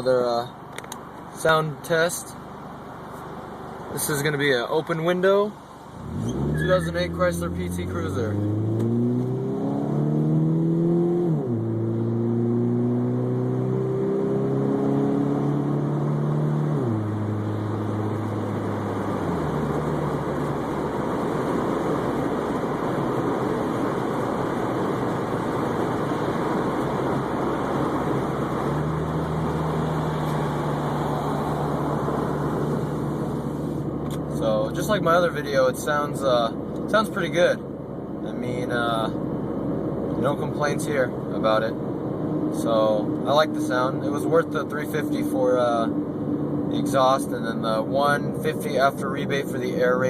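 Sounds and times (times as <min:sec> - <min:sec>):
car engine accelerating: 0:05.8 - 0:50.0.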